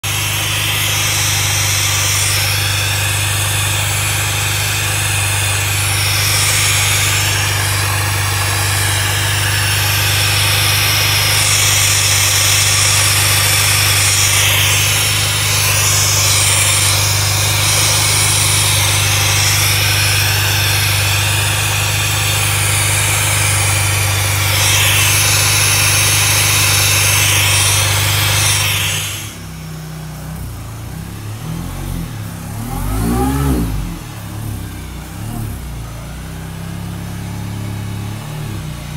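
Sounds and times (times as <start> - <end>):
car engine running with hiss: 0.0 - 38.9.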